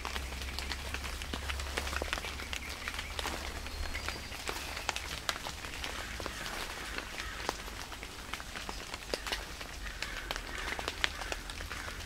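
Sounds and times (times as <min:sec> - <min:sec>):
water drops falling on leaves: 0:00.0 - 0:12.0.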